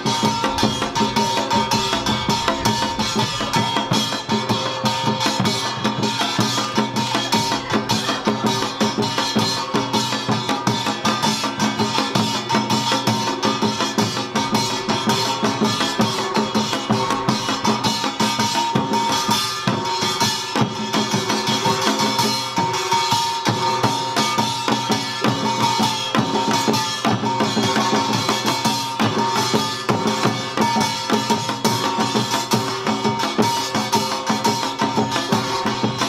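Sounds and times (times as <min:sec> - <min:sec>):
drums beating fast pattern: 0:00.0 - 0:36.0.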